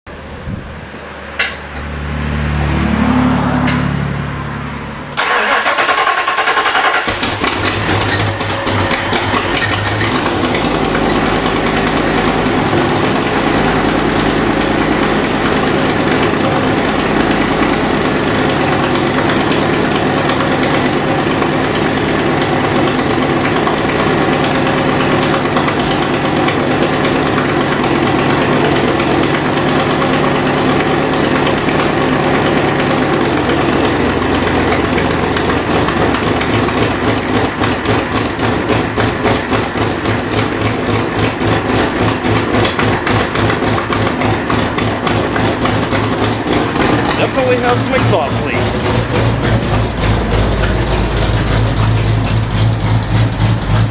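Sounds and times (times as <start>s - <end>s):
car engine starting and idling: 0.1s - 53.9s
fast engine ticking: 5.0s - 53.9s.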